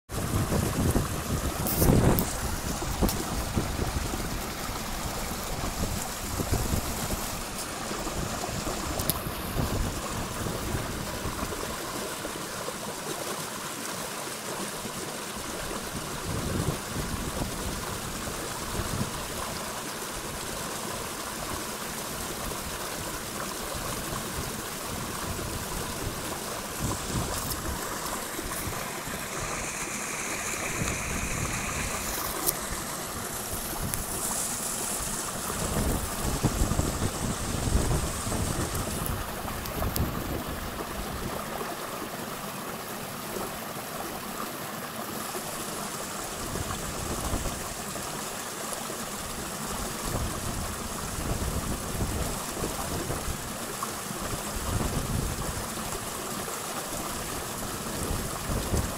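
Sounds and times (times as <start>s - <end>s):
river water rushing: 0.1s - 58.9s.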